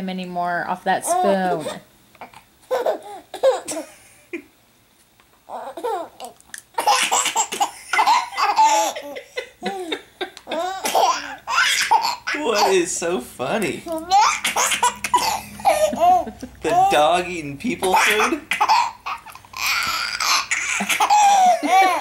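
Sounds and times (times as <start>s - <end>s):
baby laughing: 1.1s - 4.4s, 5.5s - 13.2s, 13.8s - 22.0s.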